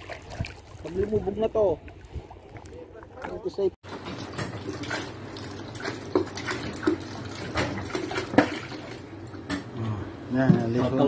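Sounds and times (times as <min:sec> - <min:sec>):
water splashing into plastic basin: 0:00.0 - 0:09.0.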